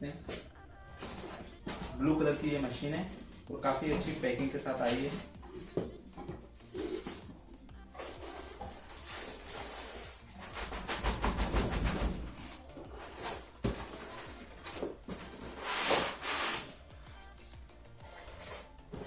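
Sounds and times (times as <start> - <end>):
cardboard box rustling and scraping: 0.3 - 16.9.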